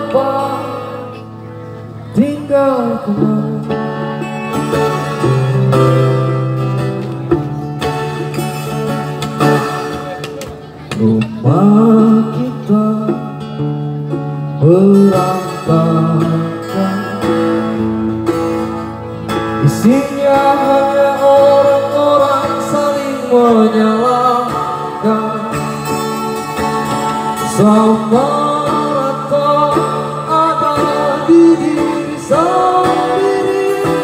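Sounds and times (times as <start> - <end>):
man singing into a microphone: 0.0 - 6.4, 10.0 - 34.0
acoustic guitar: 0.0 - 34.0.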